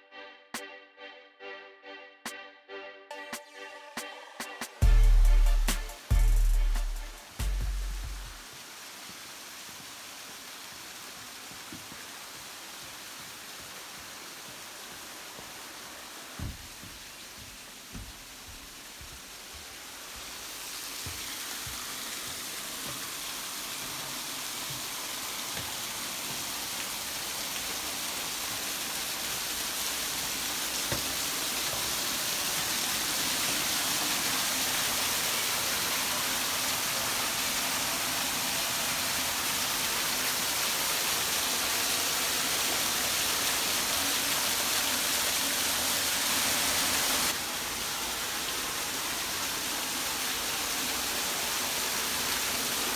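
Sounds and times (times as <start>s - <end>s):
rushing water hiss: 4.0s - 52.9s.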